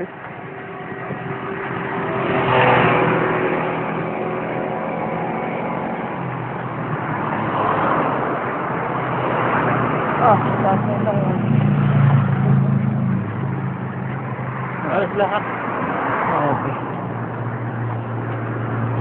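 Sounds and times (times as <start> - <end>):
steady engine hum: 0.0 - 19.0
vehicles passing close by: 0.0 - 19.0.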